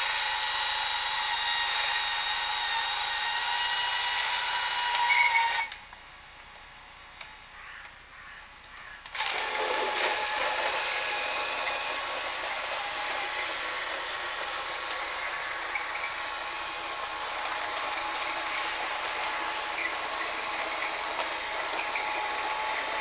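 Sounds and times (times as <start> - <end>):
toy truck motor whirring: 0.0 - 5.8, 9.0 - 23.0.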